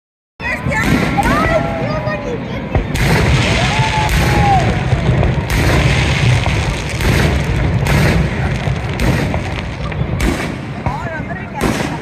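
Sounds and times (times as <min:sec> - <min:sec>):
fireworks booming: 0:00.4 - 0:12.0.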